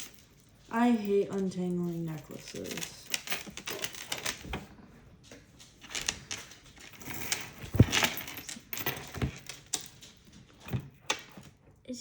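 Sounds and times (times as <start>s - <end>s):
jewelry chains clinking: 0.0s - 4.8s, 5.6s - 11.6s.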